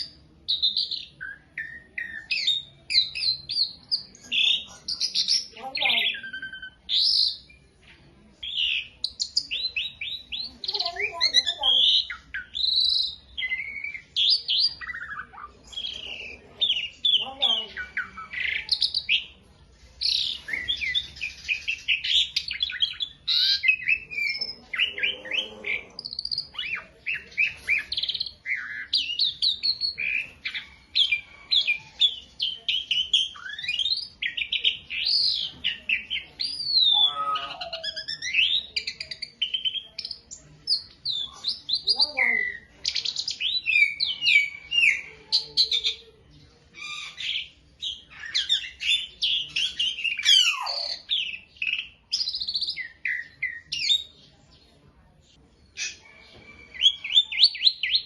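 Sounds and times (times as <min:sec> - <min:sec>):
starling singing chirps and whistles: 0:00.0 - 0:07.7, 0:08.4 - 0:19.4, 0:20.0 - 0:46.1, 0:46.8 - 0:54.2, 0:55.7 - 0:58.0.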